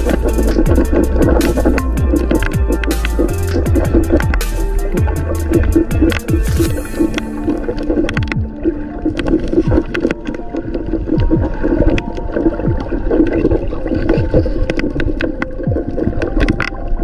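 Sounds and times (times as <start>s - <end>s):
sharp underwater clicks: 0.0s - 17.0s
underwater gurgling: 0.0s - 17.0s.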